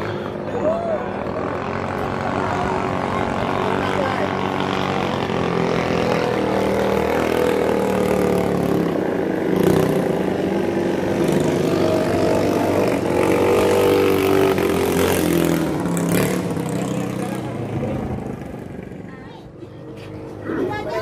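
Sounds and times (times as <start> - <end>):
boat engine racing: 0.0 - 18.8.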